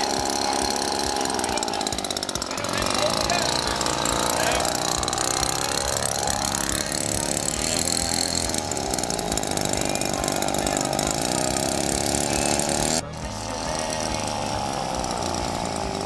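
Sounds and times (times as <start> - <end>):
model plane engine revving: 0.0 - 16.0.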